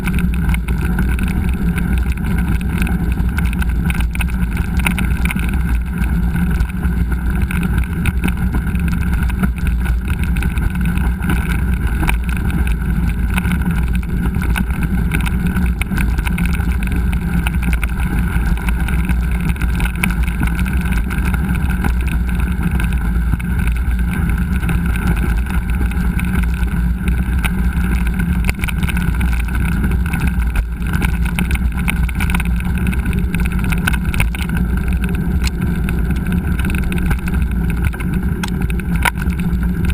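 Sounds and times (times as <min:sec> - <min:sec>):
small rattles: 0:00.0 - 0:39.9.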